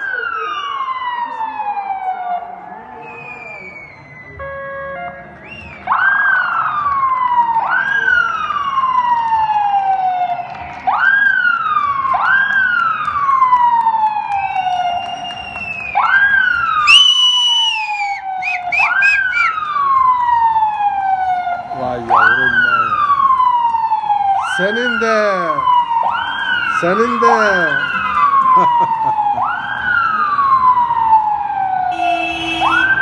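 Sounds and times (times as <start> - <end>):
ambulance siren wailing: 0.0 - 33.0.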